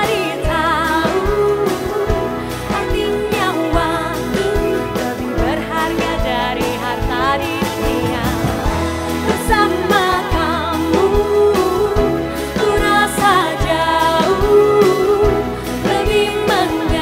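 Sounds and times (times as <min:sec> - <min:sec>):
band accompaniment: 0:00.0 - 0:17.0
woman singing with vibrato: 0:00.0 - 0:17.0.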